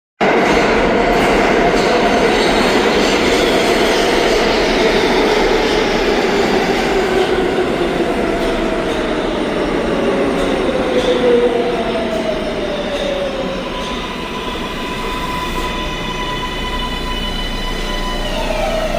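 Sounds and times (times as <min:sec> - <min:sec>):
train wheels rumbling on rail: 0:00.2 - 0:18.9.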